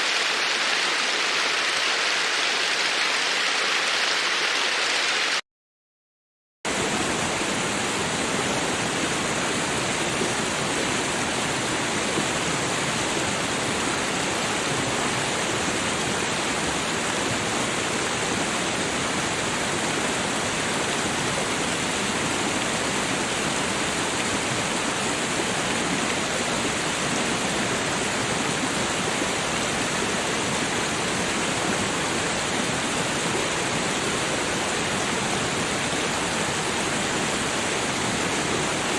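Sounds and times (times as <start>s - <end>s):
babbling creek rushing: 0.0s - 5.4s, 6.7s - 38.9s.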